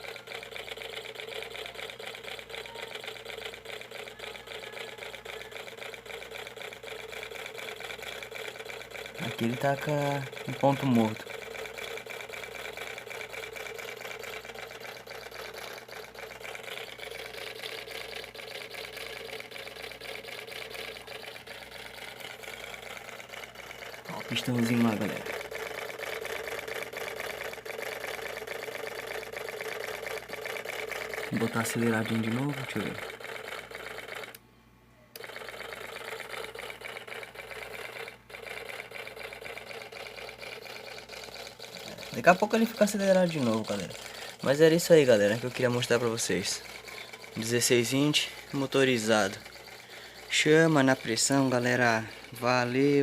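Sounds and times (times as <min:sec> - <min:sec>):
miniature engine clattering: 0:00.0 - 0:34.4, 0:35.2 - 0:53.0.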